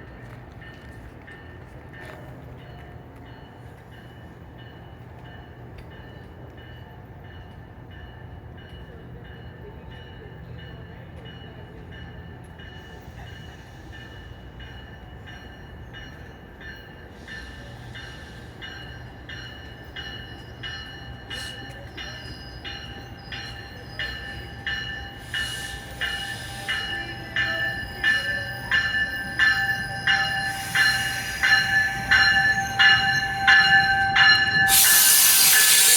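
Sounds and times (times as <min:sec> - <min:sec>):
rail wheels clicking: 0:00.0 - 0:35.9
train rumbling past on rails: 0:00.0 - 0:35.9.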